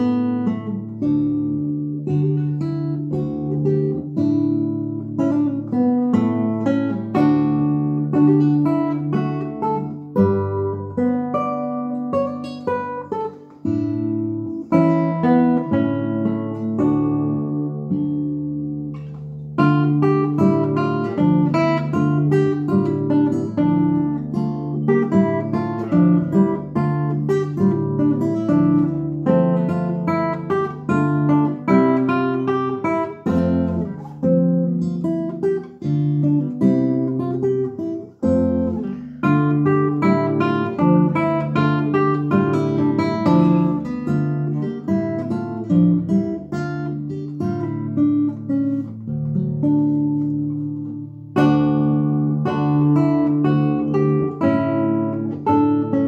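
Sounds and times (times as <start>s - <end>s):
classical guitar fingerstyle: 0.0s - 56.0s.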